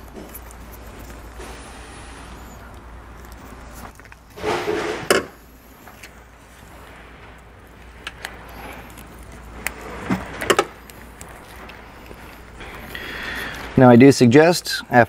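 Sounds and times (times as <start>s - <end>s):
hands rustling wiring: 0.0s - 15.0s.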